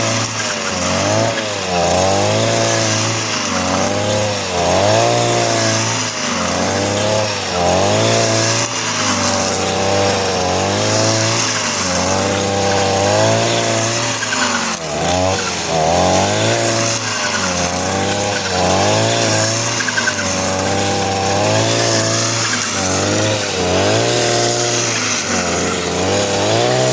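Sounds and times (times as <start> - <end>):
brush cutter engine revving: 0.0 - 26.9.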